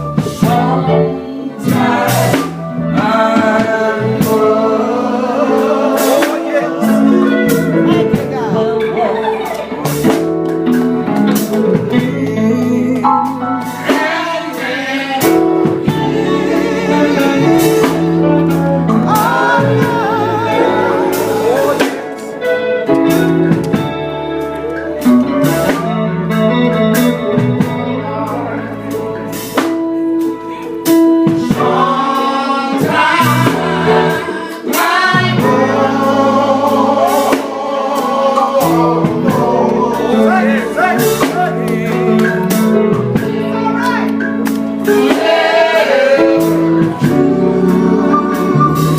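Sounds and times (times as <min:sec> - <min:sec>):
gospel group singing: 0:00.0 - 0:48.9
guitar accompaniment: 0:00.0 - 0:48.9
steady beat: 0:00.0 - 0:48.9.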